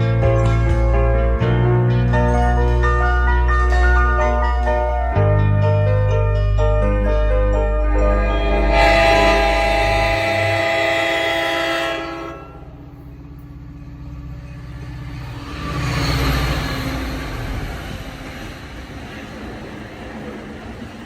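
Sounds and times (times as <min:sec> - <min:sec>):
train rumbling through station: 0:00.0 - 0:21.0.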